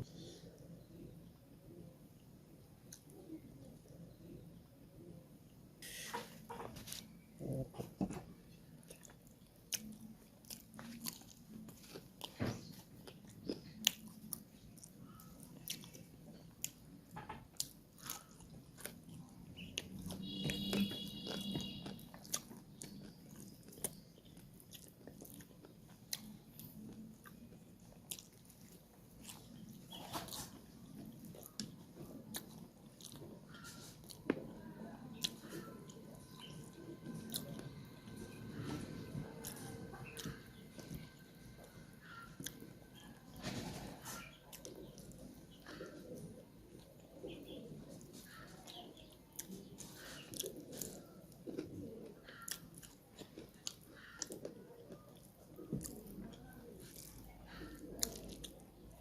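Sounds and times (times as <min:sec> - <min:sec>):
person chewing food: 0:06.2 - 0:43.4, 0:44.1 - 0:59.0
crunches and clicks of chewing: 0:06.9 - 0:59.0.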